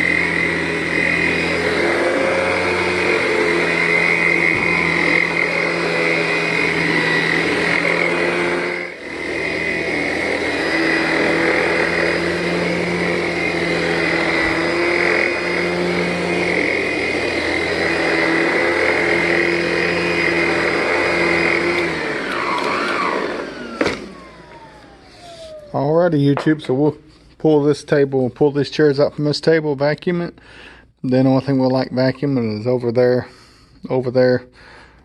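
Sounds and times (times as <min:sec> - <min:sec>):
vacuum cleaner running: 0:00.0 - 0:28.7.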